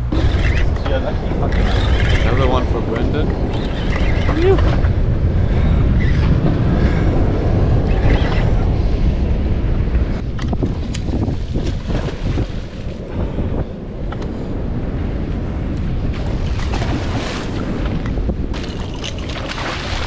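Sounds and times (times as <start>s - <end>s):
sea washing against boat: 0.0s - 20.0s
wind buffeting microphone: 0.0s - 20.0s.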